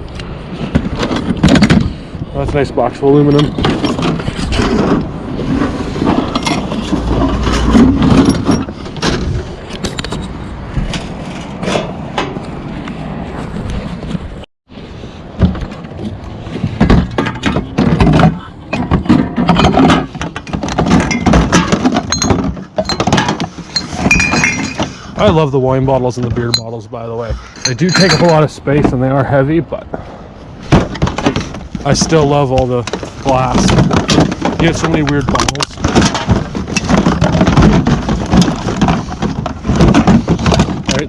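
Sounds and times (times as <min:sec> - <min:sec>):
scrap metal clanking and scraping: 0:00.5 - 0:14.2, 0:15.1 - 0:25.6, 0:26.2 - 0:29.1, 0:30.6 - 0:41.0.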